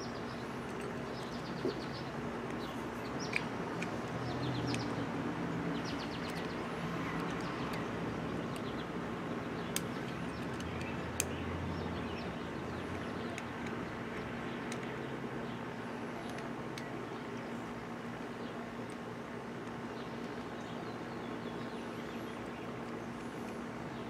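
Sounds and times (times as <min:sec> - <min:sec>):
birds chirping: 0:00.0 - 0:24.0
steady background hum: 0:00.0 - 0:24.0.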